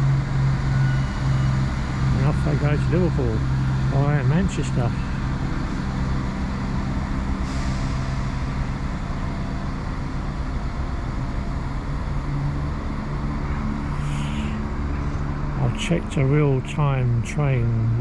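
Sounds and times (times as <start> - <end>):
train engines rumbling: 0.0 - 18.0.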